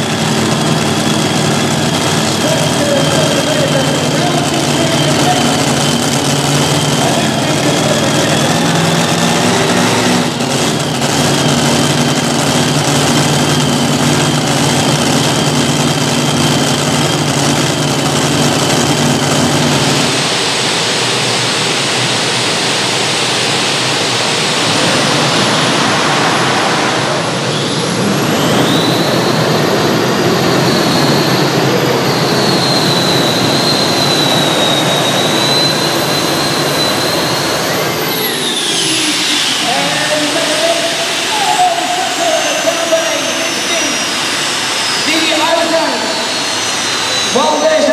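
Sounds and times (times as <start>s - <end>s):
piston engines idling: 0.0s - 47.9s
turbine rush and high whine: 0.0s - 47.9s.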